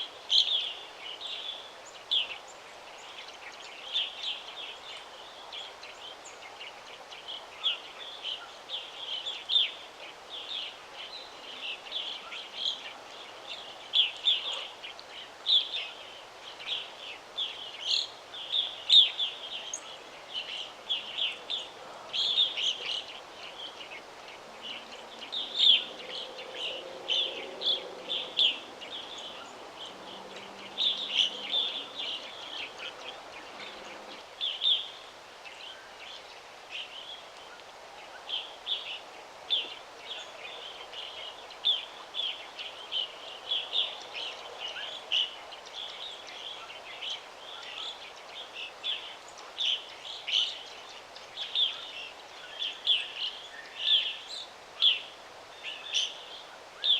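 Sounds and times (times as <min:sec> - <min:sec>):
soft background hiss: 0:00.0 - 0:56.9
songbirds chirping: 0:00.0 - 0:56.9.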